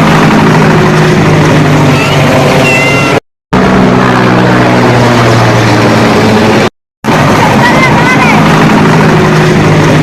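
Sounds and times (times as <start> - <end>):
helicopter rotor drone: 0.0 - 10.0.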